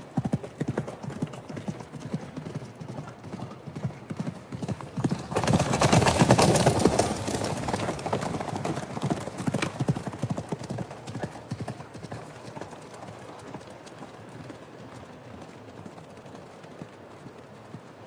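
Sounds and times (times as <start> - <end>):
horse hooves galloping: 0.0 - 18.0.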